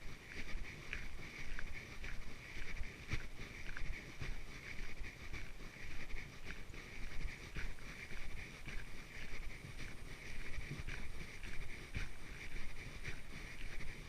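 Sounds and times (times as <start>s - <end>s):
dog panting: 0.0s - 14.0s
footsteps on a trail: 0.0s - 14.0s.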